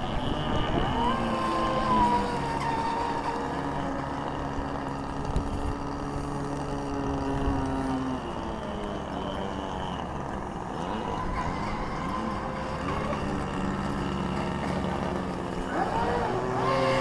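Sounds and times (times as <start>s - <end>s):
model boat motor whining: 0.0s - 17.0s.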